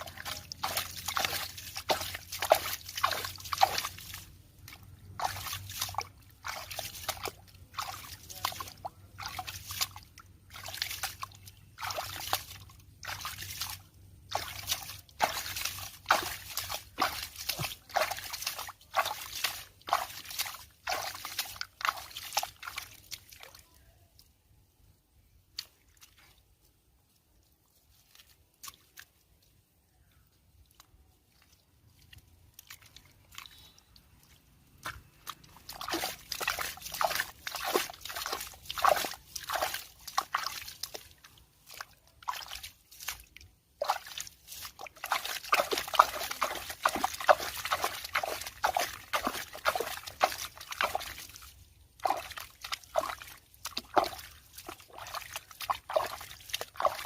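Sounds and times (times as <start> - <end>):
water sloshing and splashing: 0.0 - 23.8, 25.4 - 29.7, 30.5 - 57.0.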